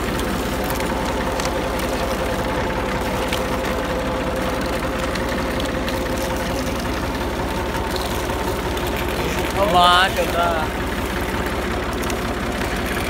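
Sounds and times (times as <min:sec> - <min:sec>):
sugarcane crushing machine running: 0:00.0 - 0:13.0.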